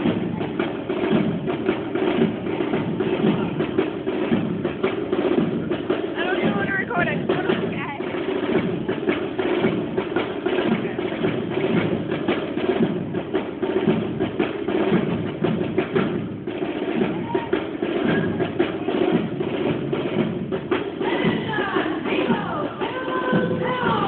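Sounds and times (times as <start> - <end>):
marching drums beating: 0.0 - 24.0.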